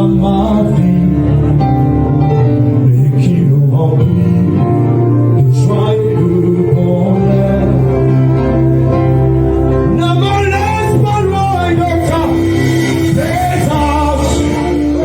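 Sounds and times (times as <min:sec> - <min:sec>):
gospel worship music with singing: 0:00.0 - 0:01.8, 0:02.8 - 0:08.7, 0:09.9 - 0:15.0.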